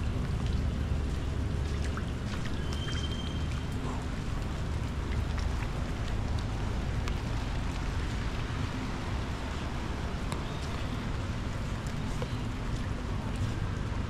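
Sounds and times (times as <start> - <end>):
constant low rumble: 0.0 - 14.0
raindrops ticking: 0.0 - 14.0.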